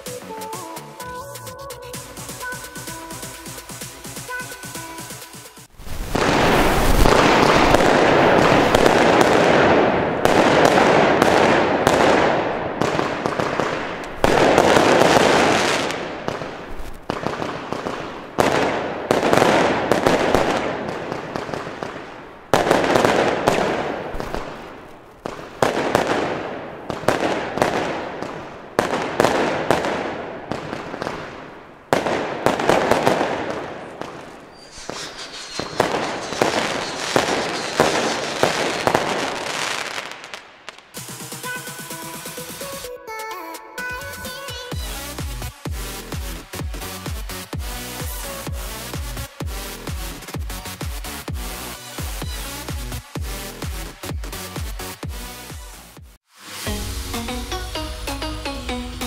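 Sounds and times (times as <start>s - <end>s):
fireworks launching and bursting: 0.0s - 59.0s.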